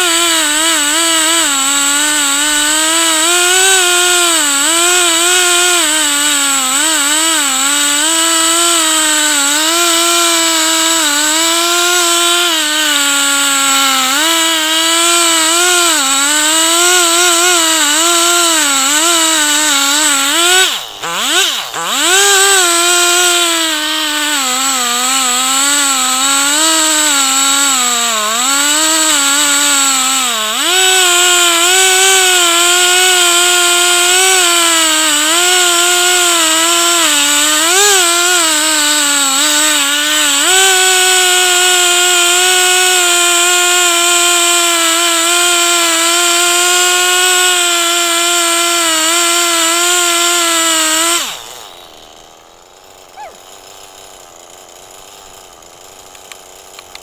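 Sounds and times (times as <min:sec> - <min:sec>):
chainsaw cutting at high revs: 0:00.0 - 0:57.0.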